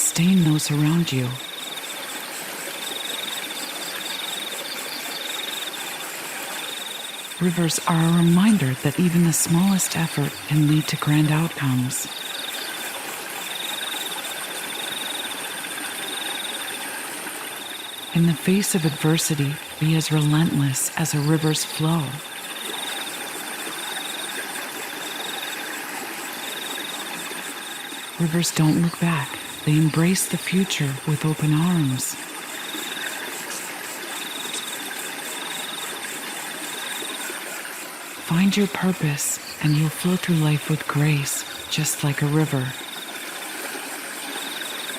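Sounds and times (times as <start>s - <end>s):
cricket chirping: 0.0s - 44.9s
flowing river water: 0.0s - 44.9s.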